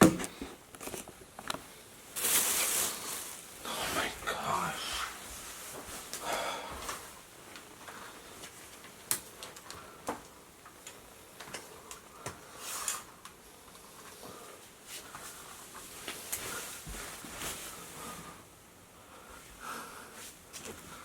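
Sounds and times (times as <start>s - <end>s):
rustling hiss: 1.6s - 21.0s.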